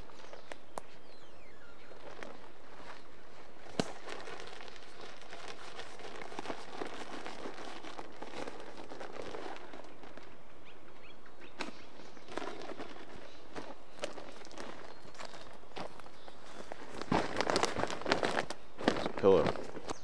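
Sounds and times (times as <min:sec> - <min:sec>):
footsteps crunching on dry ground: 0:00.0 - 0:20.0.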